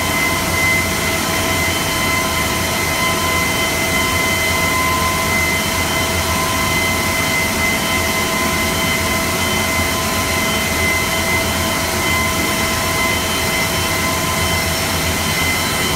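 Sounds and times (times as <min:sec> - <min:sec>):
cutting machine whine: 0:00.0 - 0:15.9.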